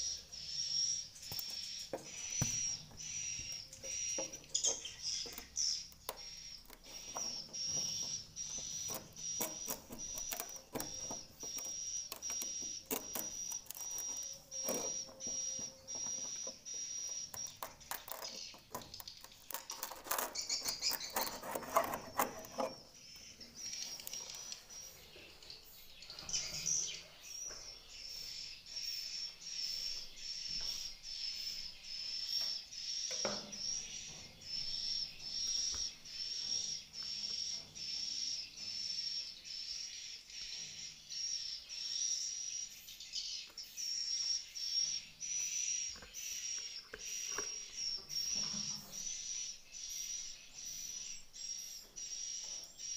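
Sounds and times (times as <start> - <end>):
birds twittering: 0.0 - 52.9.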